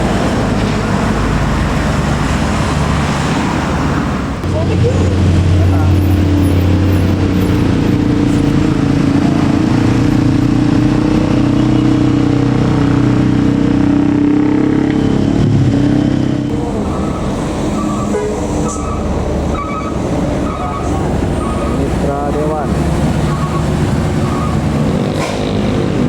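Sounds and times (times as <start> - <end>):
diesel bus engine under load: 0.0 - 26.0.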